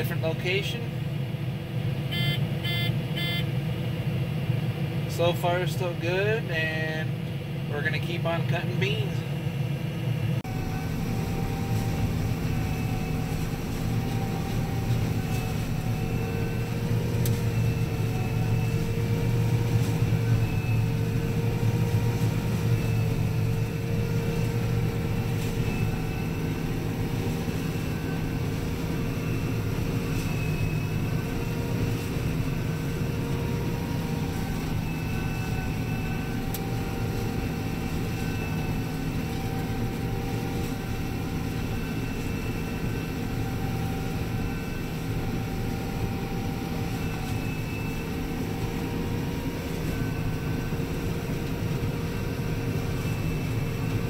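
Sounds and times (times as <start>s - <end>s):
combine harvester engine drone: 0.0s - 54.0s
faint high whine: 2.0s - 3.6s, 10.5s - 54.0s.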